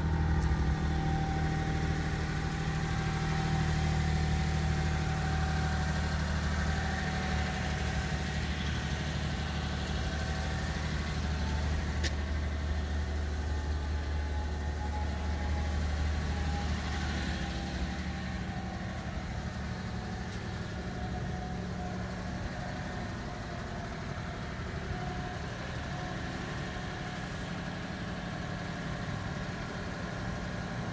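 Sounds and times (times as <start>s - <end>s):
small engine idling: 0.0s - 30.9s.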